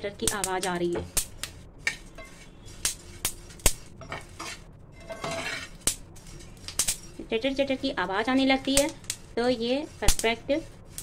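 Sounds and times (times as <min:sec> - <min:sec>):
seeds crackling and popping in pan: 0:00.0 - 0:11.0
steel spoon scraping pan: 0:00.2 - 0:11.0.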